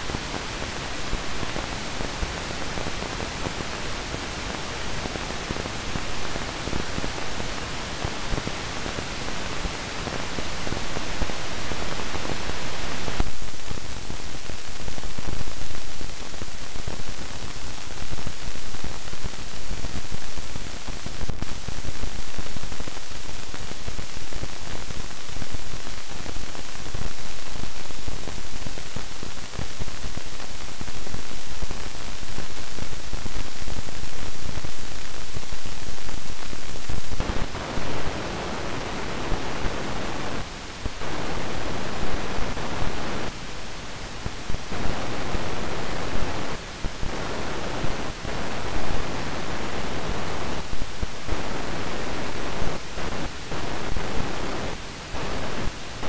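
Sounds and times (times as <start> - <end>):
hiss with small pops: 0.0 - 56.0.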